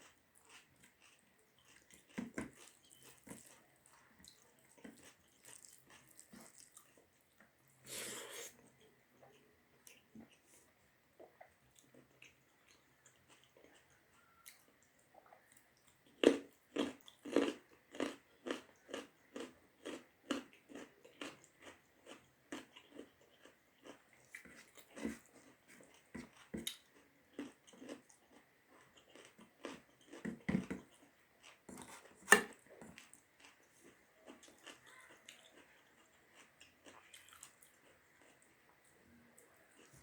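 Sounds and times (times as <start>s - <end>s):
person chewing rice: 0.0s - 40.0s.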